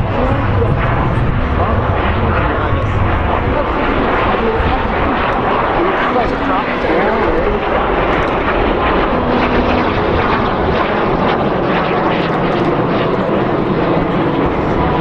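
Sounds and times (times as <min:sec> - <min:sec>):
jet aircraft rushing overhead: 0:00.0 - 0:15.0.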